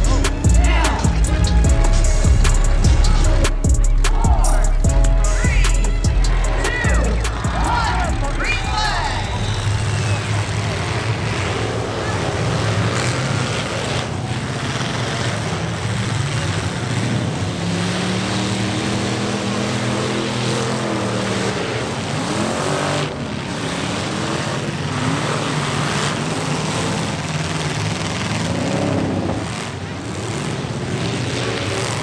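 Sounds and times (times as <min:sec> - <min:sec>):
truck engines revving hard: 0:00.0 - 0:32.0.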